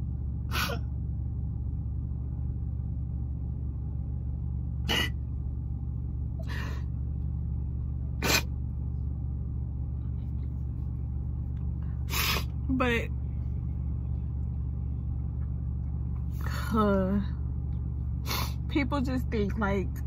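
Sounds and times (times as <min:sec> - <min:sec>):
idling car hum: 0:00.0 - 0:20.0.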